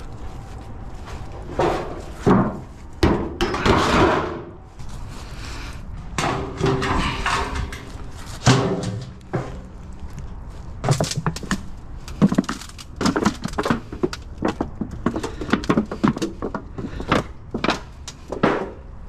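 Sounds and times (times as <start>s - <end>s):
metal tubes crunched underfoot: 0.0s - 19.0s.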